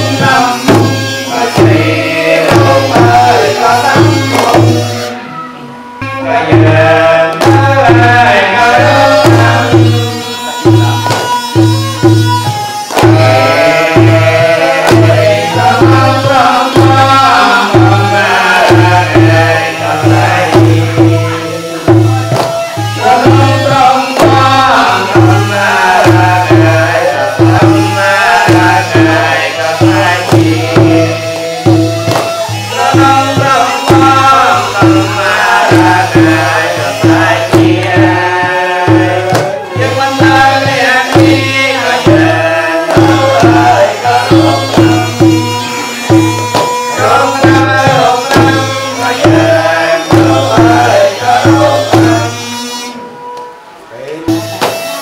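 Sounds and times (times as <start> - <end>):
hand drum beating: 0.0 - 5.1, 6.5 - 52.4, 54.3 - 55.0
continuous ceremonial melody: 0.0 - 55.0.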